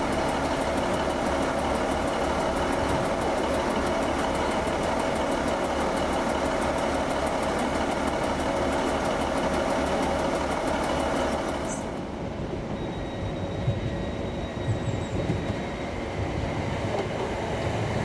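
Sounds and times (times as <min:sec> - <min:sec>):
train engine running steadily: 0:00.0 - 0:18.0.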